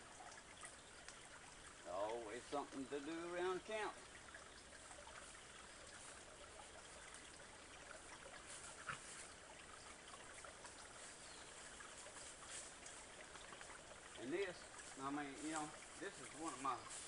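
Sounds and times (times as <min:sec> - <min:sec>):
creek trickling: 0:00.0 - 0:17.0.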